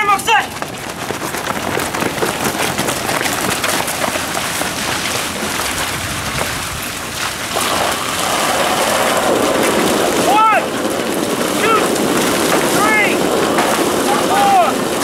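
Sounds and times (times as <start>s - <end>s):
people running on pavement: 0.0s - 15.0s.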